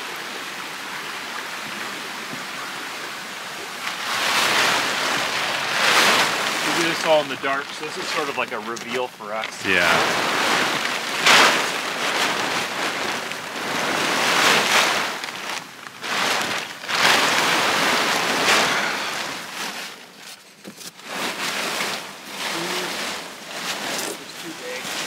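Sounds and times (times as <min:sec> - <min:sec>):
plastic tarps rustling and crinkling: 0:02.8 - 0:25.0.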